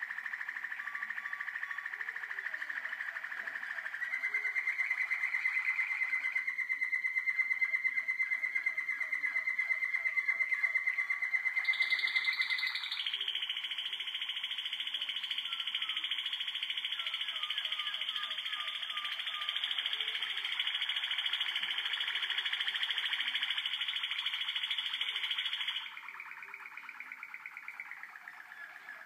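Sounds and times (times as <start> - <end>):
canary singing rolling trill: 0.0 - 29.0.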